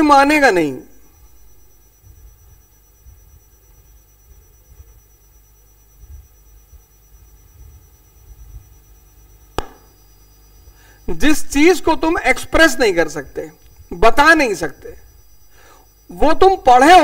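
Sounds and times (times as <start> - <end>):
faint hiss and hum: 0.0 - 17.0.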